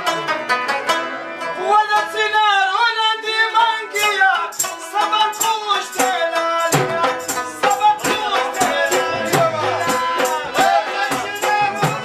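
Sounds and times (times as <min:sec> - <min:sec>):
harmonium chords: 0:00.0 - 0:12.0
person singing: 0:01.6 - 0:12.0.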